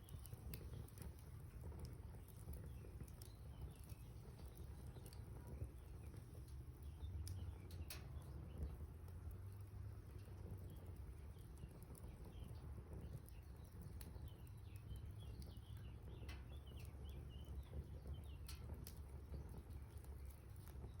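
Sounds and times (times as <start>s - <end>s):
campfire crackling: 0.0s - 21.0s
small birds chirping: 0.0s - 21.0s.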